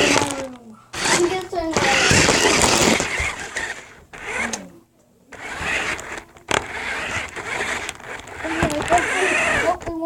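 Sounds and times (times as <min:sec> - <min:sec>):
rc truck motor and wheels churning: 0:00.0 - 0:04.7, 0:05.3 - 0:10.0.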